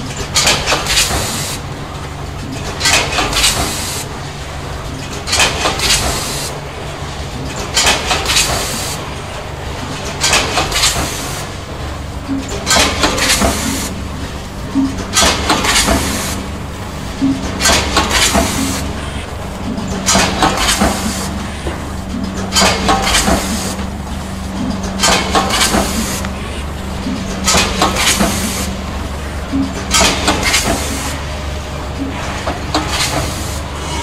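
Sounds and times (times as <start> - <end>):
packing machine humming: 0.0 - 34.0.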